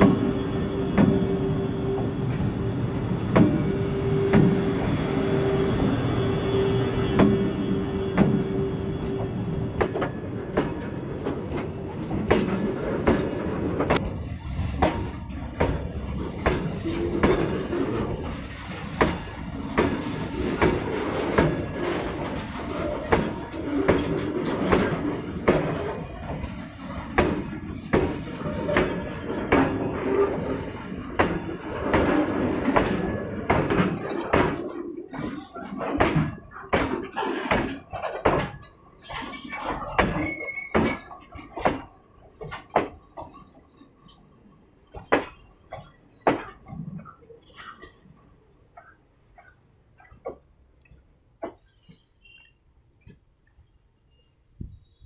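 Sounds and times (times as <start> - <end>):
train wheels rumbling on rails: 0.0 - 49.6
wheels clanking over rail joints: 0.0 - 53.3.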